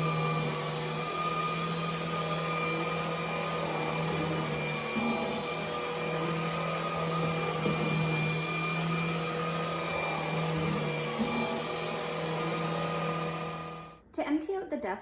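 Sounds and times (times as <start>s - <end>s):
stick vacuum running: 0.0s - 13.9s.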